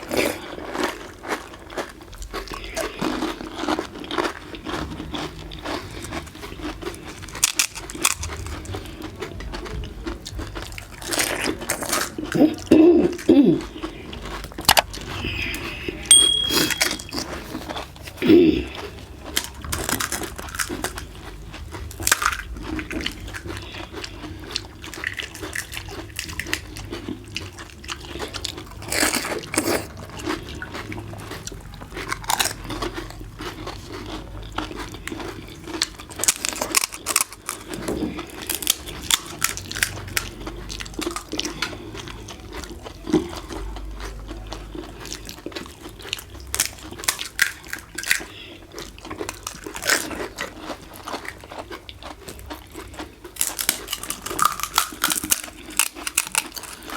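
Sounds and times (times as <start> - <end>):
crisp shells crunching: 0.0 - 9.6, 16.5 - 41.9, 44.9 - 56.9.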